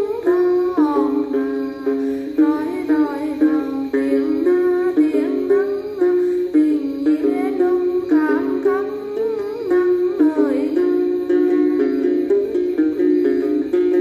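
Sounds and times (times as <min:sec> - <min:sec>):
person singing ornamented melody: 0:00.0 - 0:14.0
plucked lute: 0:00.0 - 0:14.0.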